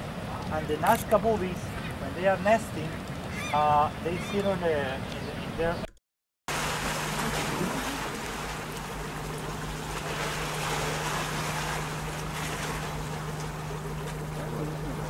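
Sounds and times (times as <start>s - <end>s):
wind and sea hiss: 0.0s - 5.8s, 6.5s - 15.0s
boat motor humming: 0.0s - 15.0s.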